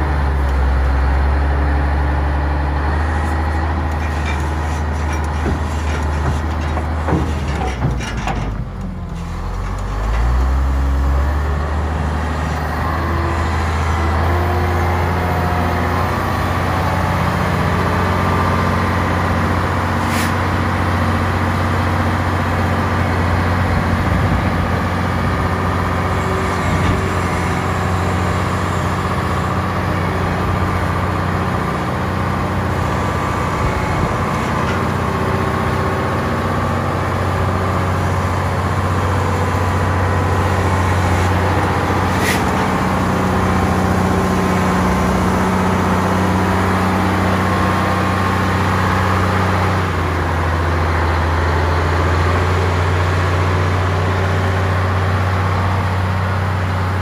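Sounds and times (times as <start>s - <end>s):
wheel loader diesel engine running: 0.0s - 57.0s.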